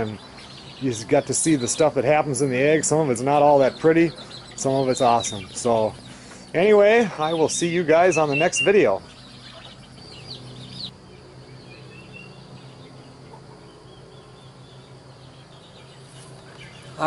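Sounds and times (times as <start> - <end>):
high chirping bird calls: 0.0 - 17.0
low steady hum: 0.0 - 17.0.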